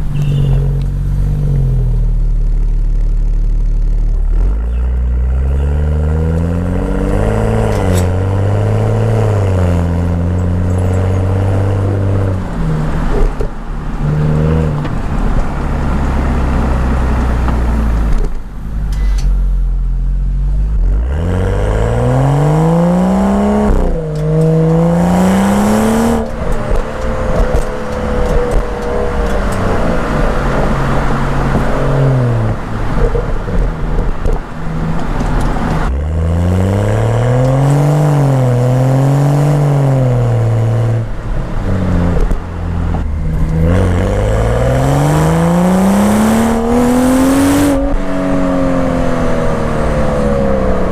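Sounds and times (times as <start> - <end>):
car exhaust under acceleration: 0.0 - 50.9.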